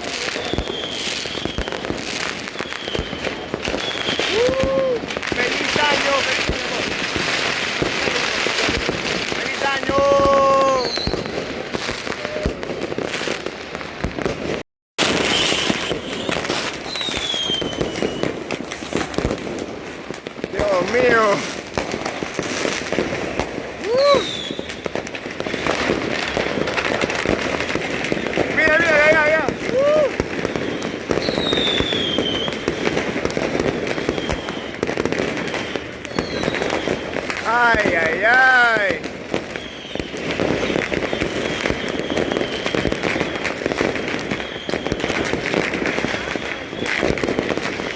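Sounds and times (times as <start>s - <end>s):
falling firework whistle: 0.0s - 19.4s, 20.7s - 38.0s, 38.6s - 47.9s
firecrackers popping and crackling: 0.0s - 47.9s.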